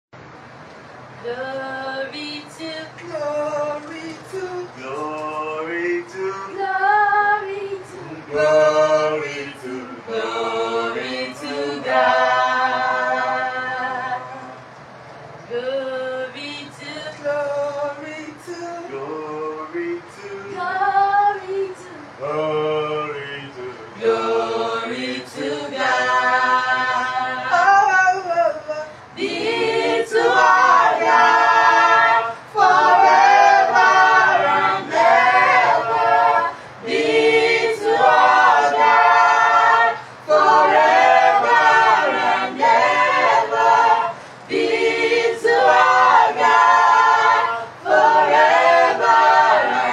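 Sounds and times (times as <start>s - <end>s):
group singing in harmony: 1.2s - 14.8s, 15.5s - 49.9s.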